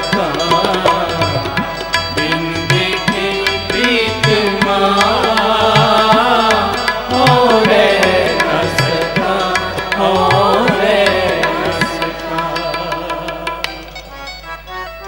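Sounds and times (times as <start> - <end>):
man singing: 0.0 - 14.1
tabla strokes: 0.0 - 14.4
harmonium: 0.0 - 15.0.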